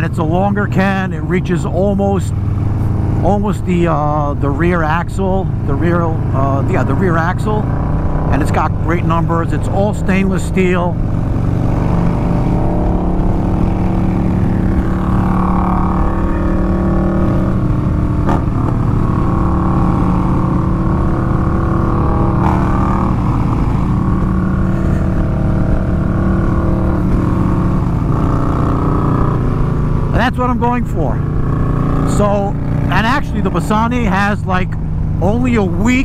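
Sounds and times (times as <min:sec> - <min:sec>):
motorcycle engines cruising: 0:00.0 - 0:36.0
road noise: 0:00.0 - 0:36.0
rushing wind: 0:00.0 - 0:36.0.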